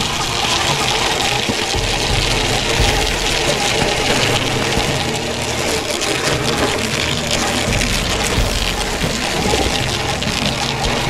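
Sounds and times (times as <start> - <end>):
electric motor whirring: 0.0 - 11.0
tracks clattering: 0.0 - 11.0.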